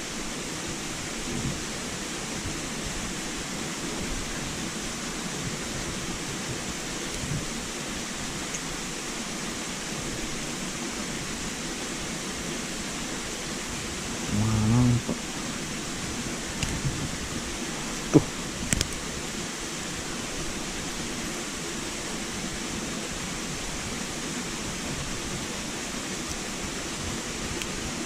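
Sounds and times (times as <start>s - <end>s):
flowing river water: 0.0s - 28.0s.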